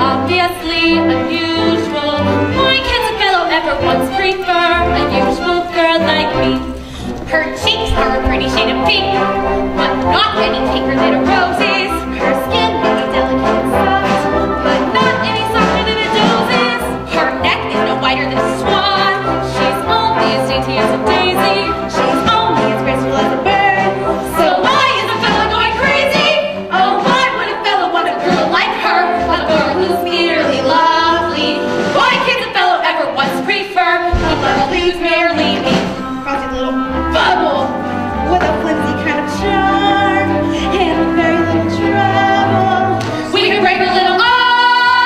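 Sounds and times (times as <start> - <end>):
girls singing with vibrato: 0.0 - 45.0
instrumental accompaniment: 0.0 - 45.0.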